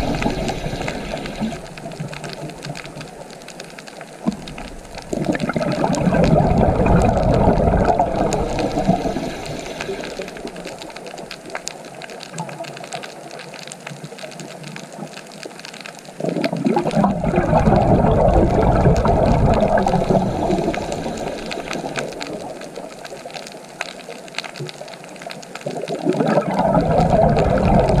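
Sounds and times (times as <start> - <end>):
rushing water: 0.0 - 28.0.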